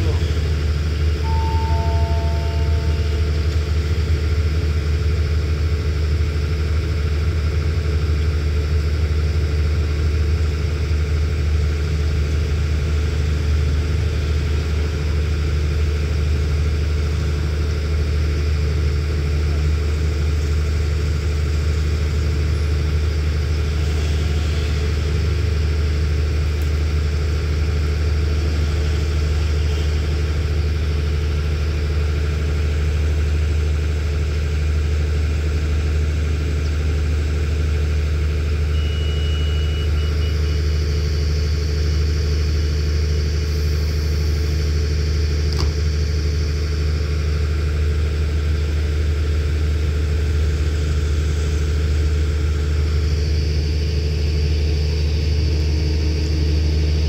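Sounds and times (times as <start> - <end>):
diesel train engine idling: 0.0 - 57.0.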